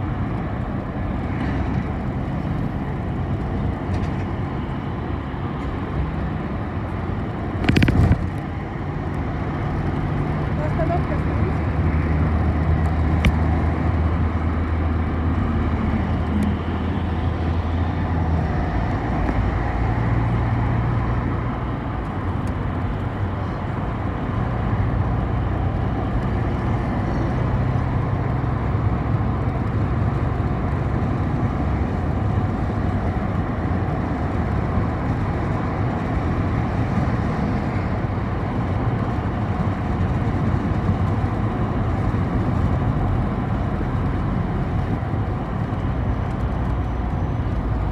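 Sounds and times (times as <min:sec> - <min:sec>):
bus engine hum: 0:00.0 - 0:47.9
road noise: 0:00.0 - 0:47.9.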